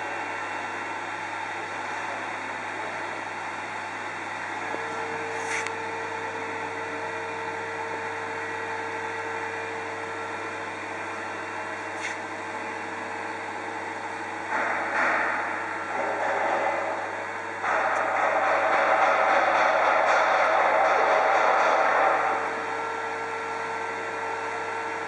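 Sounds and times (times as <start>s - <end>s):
mechanical hum with hiss: 0.0s - 25.0s.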